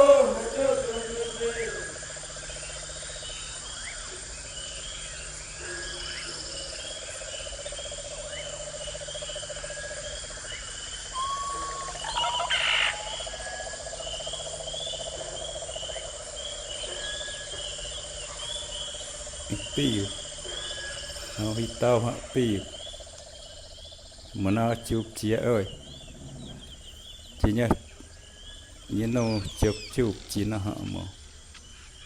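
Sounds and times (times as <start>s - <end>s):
loud animal call: 0.0s - 4.2s, 5.5s - 31.1s
frogs pulsing trill: 0.0s - 32.0s
high insect whine: 0.0s - 32.0s.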